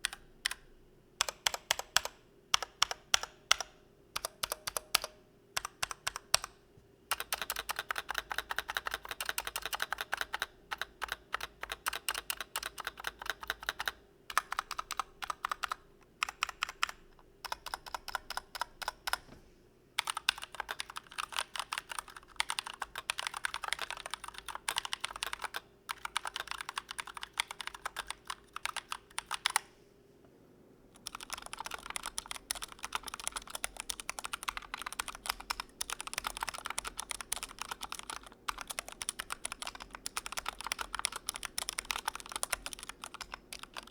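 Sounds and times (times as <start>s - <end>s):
mechanical keyboard typing: 0.0s - 19.2s, 20.0s - 29.7s, 31.0s - 43.9s.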